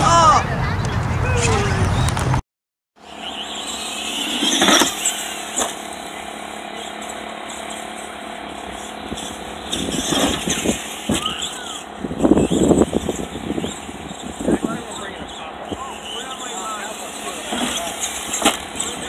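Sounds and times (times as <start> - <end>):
rattling surges: 3.0 - 19.0
toy truck motor whirring: 3.1 - 19.0.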